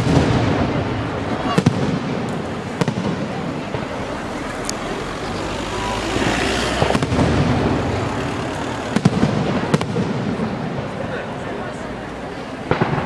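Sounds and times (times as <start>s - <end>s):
hissing crackle: 0.0s - 11.0s
fireworks bursting: 0.0s - 13.0s
steady noisy background: 0.0s - 13.0s.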